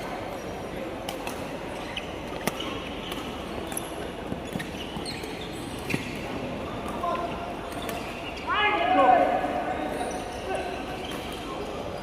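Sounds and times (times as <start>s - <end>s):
sports hall din: 0.0s - 12.0s.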